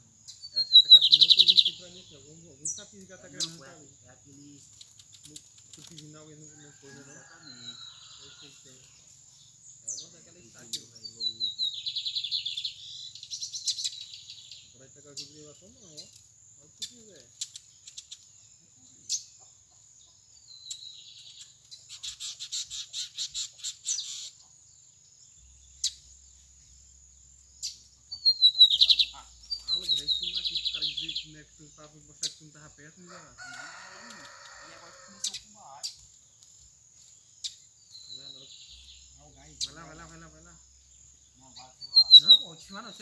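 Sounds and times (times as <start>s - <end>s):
bird song with buzzy trill: 0.0s - 36.1s, 37.3s - 43.0s
high insect drone: 0.0s - 43.0s.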